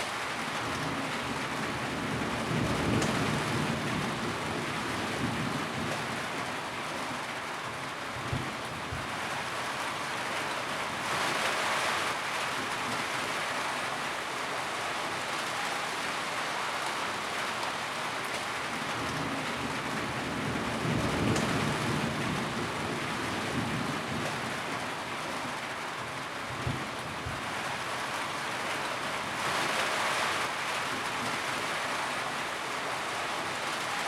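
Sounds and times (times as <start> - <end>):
rain on a tin roof: 0.0 - 34.0.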